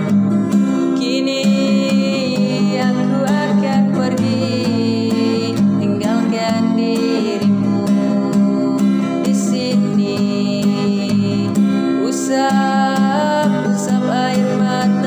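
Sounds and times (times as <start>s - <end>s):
guitar-led pop ballad: 0.0s - 15.0s.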